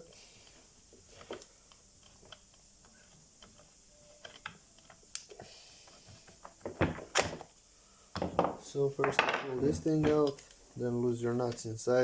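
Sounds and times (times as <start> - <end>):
small parts clicking and tapping: 0.4 - 10.6.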